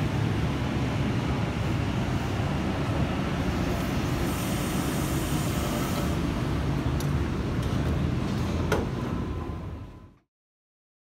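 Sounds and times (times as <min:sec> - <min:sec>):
train rumbling: 0:00.0 - 0:10.2.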